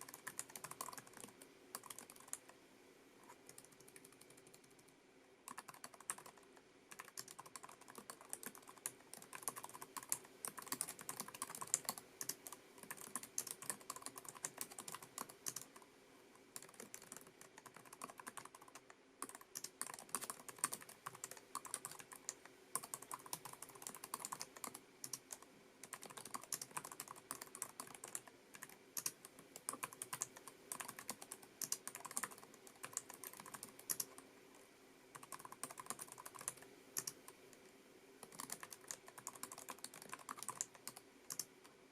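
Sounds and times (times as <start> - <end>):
keyboard typing clicks: 0.0 - 2.4, 3.5 - 4.9, 5.5 - 15.8, 16.6 - 34.2, 35.2 - 37.3, 38.2 - 41.5.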